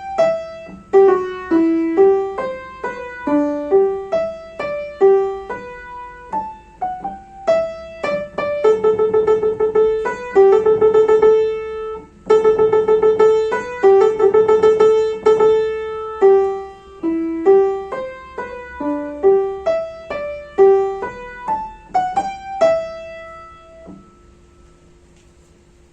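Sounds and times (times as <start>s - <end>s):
piano melody: 0.0s - 25.0s.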